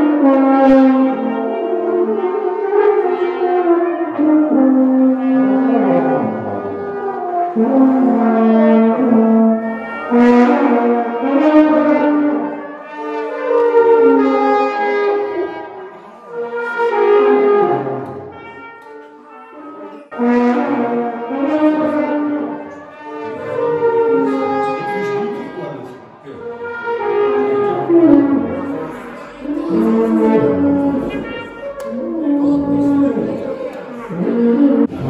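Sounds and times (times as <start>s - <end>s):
brass ensemble playing: 0.0s - 35.0s
french horn: 0.0s - 35.0s.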